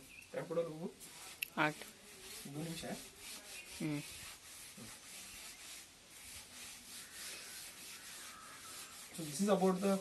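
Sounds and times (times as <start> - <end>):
eraser rubbing on blackboard: 1.0 - 10.0.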